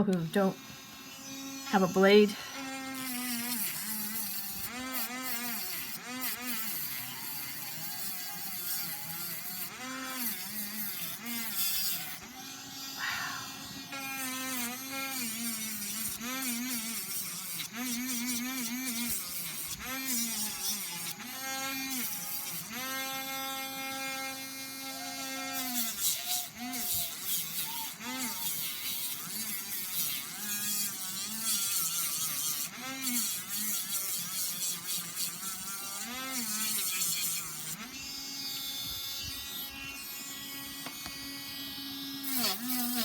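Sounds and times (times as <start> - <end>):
electric nail drill whining: 0.0 - 43.0.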